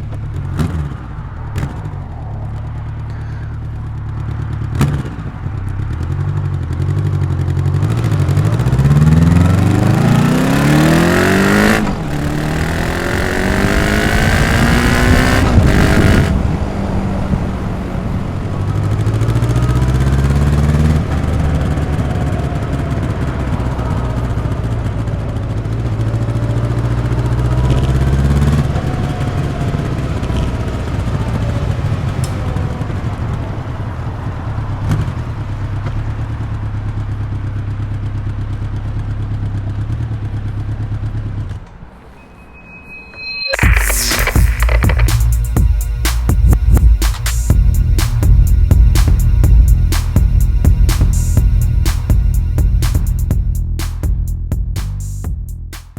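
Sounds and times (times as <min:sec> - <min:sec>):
motorcycle engine accelerating: 0:03.7 - 0:41.6, 0:43.6 - 0:55.9.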